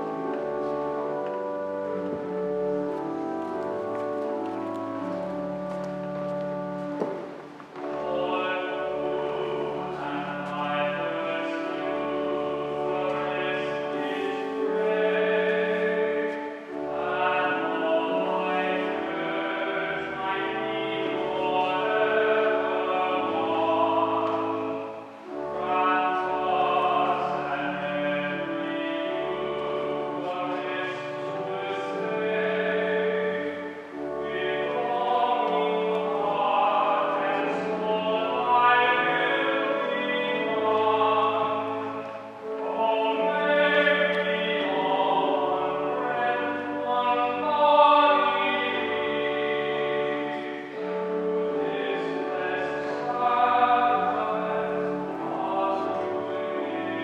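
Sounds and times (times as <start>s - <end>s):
held low accompanying notes: 0.0s - 57.0s
voices singing a slow hymn: 0.0s - 57.0s.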